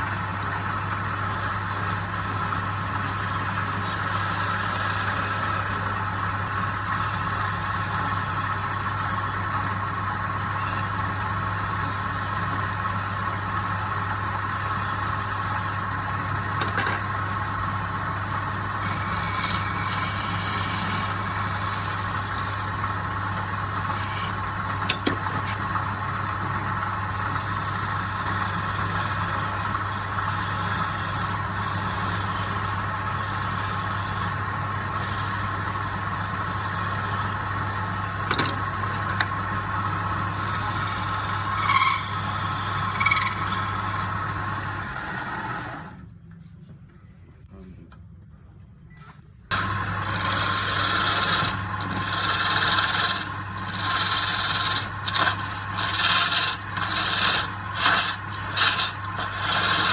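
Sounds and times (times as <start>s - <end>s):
machine motor running: 0.0s - 46.0s, 49.5s - 59.9s.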